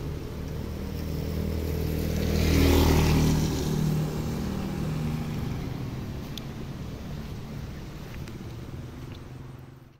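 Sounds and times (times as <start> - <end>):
vehicle engine passing by: 0.0 - 9.8.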